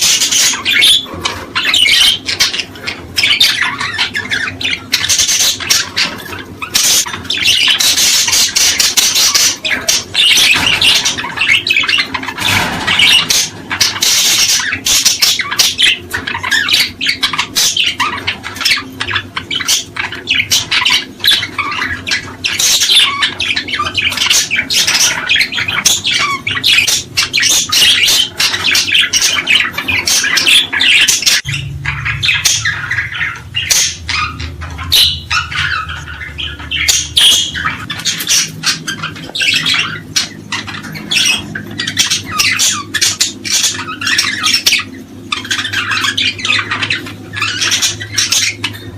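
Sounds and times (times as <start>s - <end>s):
cage birds chattering and squawking: 0.0s - 48.9s
steady low hum: 0.0s - 48.9s.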